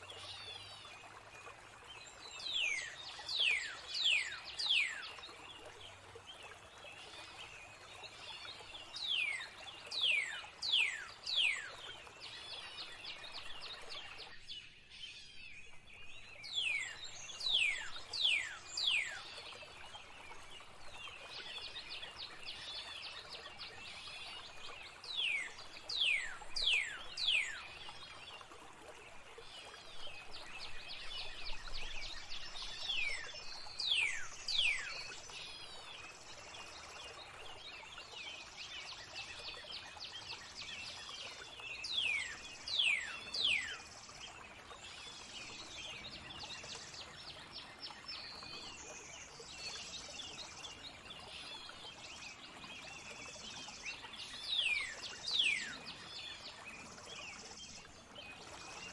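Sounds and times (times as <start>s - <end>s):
flowing water trickling: 0.0s - 14.5s, 15.2s - 58.9s
songbirds chirping and twittering: 0.0s - 58.9s.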